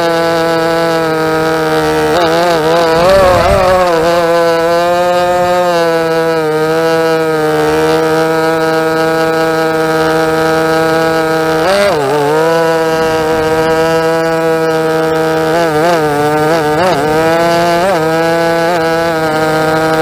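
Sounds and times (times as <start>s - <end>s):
drone motors buzzing whine: 0.0s - 20.0s.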